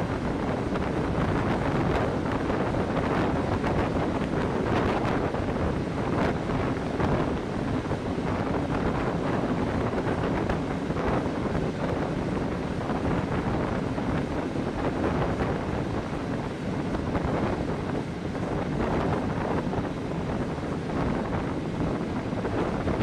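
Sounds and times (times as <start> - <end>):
wind rushing past microphone: 0.0 - 23.0.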